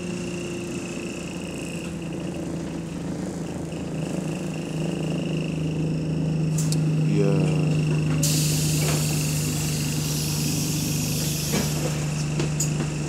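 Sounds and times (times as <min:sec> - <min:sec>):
bus engine drone: 0:00.0 - 0:13.0
cooling fan whine: 0:00.0 - 0:13.0.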